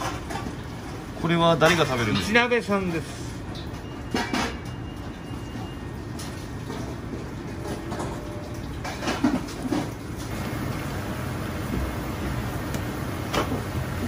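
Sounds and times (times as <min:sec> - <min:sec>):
low kitchen rumble: 0:00.0 - 0:14.0.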